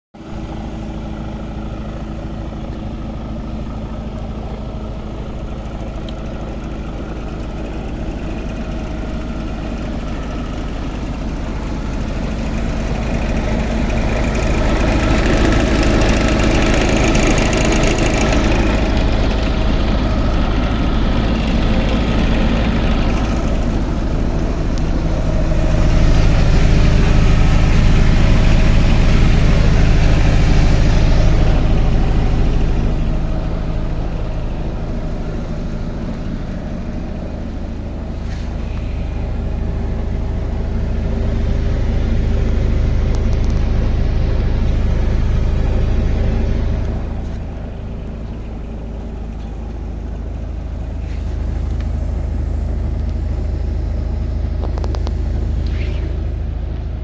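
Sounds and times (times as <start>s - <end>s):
diesel truck engine idling: 0.2s - 57.0s.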